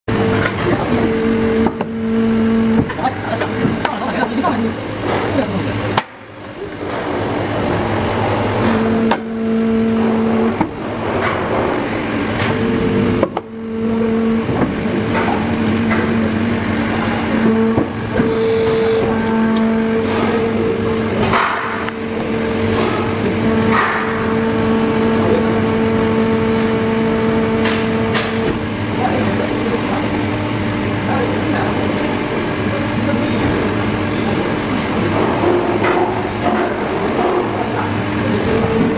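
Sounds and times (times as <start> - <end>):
machine hum: 0.0 - 38.9.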